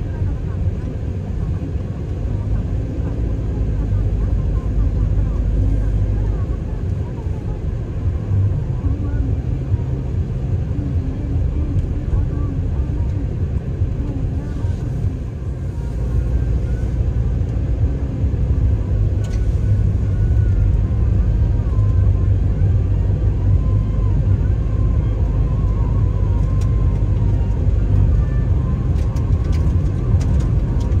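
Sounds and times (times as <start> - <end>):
tyres and engine rumbling: 0.0 - 31.0.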